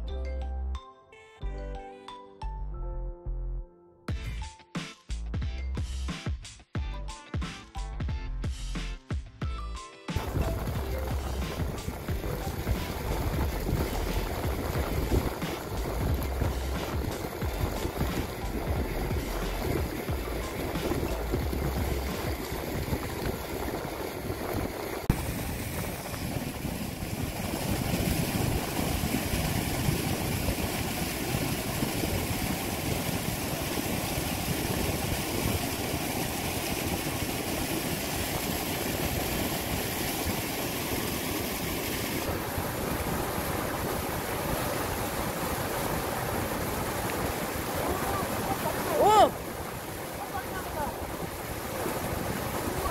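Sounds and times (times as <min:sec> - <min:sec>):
waves breaking on pebbly shore: 0:10.2 - 0:52.9.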